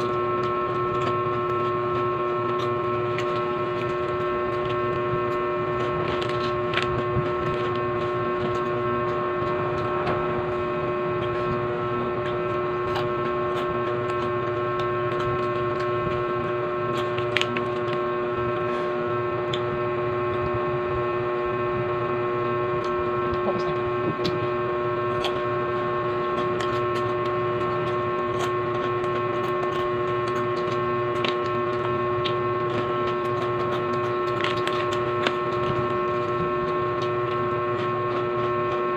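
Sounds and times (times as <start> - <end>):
foil bag crinkling: 0.0 - 19.6, 23.8 - 38.9
crunching snacks: 0.0 - 19.7, 22.6 - 38.9
steady multi-tone hum: 0.0 - 38.9.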